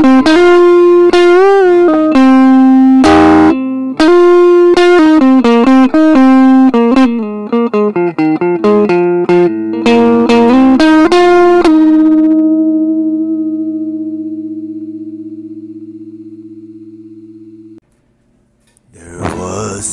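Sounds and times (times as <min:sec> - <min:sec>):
electric guitar notes: 0:00.0 - 0:17.8.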